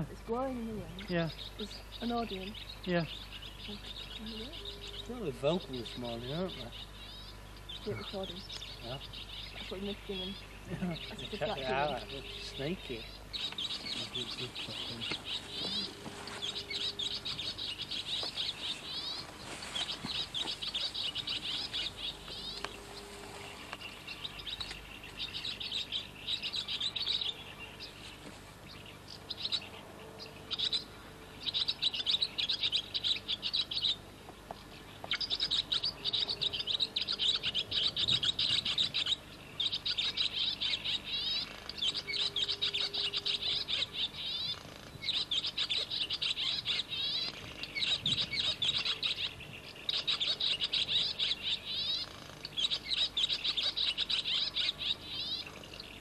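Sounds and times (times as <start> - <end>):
small songbirds twittering: 0.0 - 56.0.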